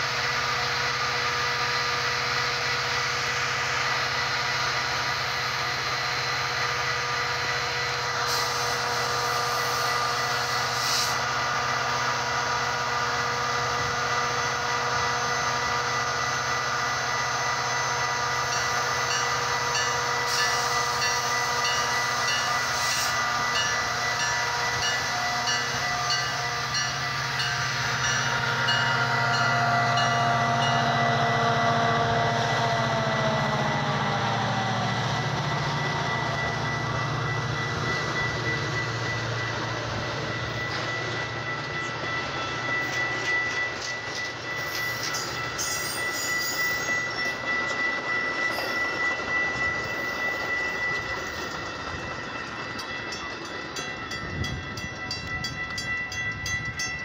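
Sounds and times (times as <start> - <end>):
train wheels clicking on rail joints: 0.0 - 57.0
crossing bell ringing: 1.4 - 57.0.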